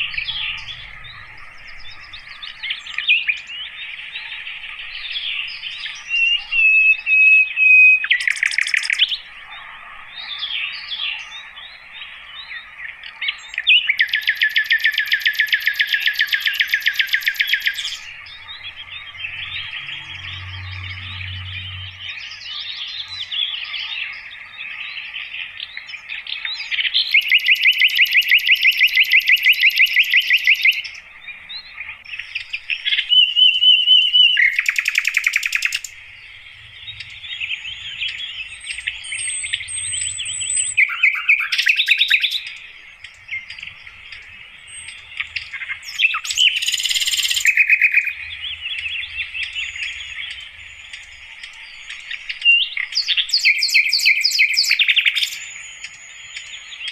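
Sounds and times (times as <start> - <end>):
bird trilling: 0.0 - 11.5, 13.2 - 31.0, 31.7 - 56.9
flycatcher singing: 0.0 - 56.9.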